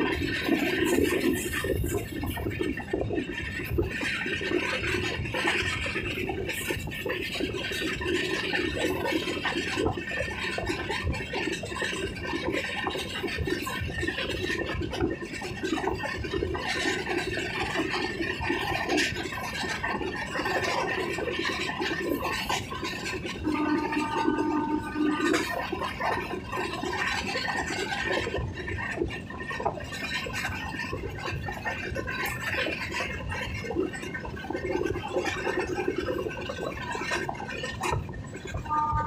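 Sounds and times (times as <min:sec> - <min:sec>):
train wheels rattling on rails: 0:00.0 - 0:39.0.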